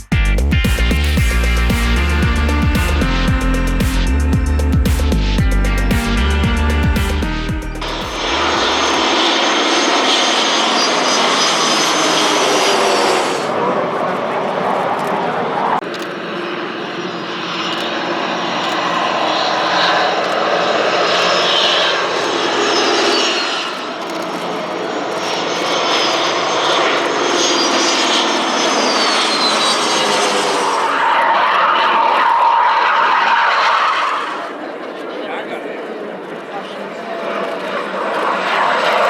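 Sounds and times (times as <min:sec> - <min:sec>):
jet engine roar with whines: 0:06.3 - 0:39.0.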